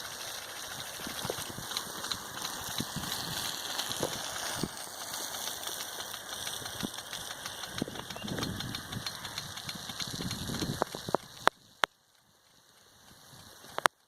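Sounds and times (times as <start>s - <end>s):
sprinkler spraying water: 0.0s - 14.0s
sprinkler ticking: 0.0s - 14.0s.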